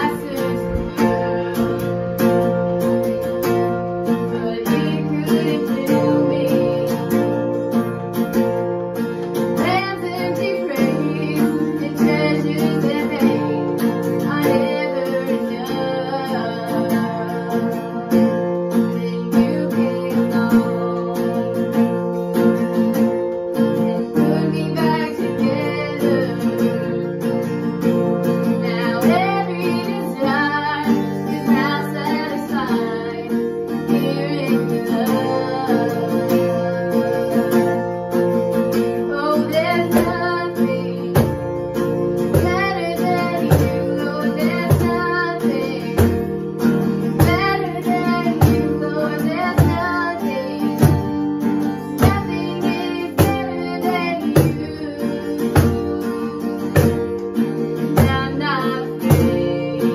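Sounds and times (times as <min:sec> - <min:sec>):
acoustic guitar strumming: 0:00.0 - 0:59.9
girl singing: 0:00.0 - 0:59.9.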